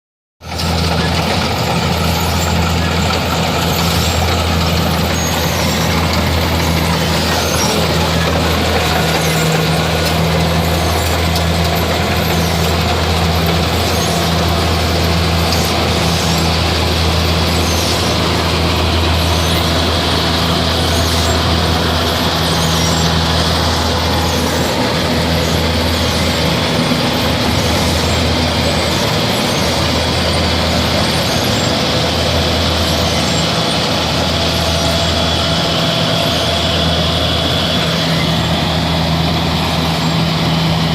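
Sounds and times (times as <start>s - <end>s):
combine harvester running: 0.4s - 40.9s.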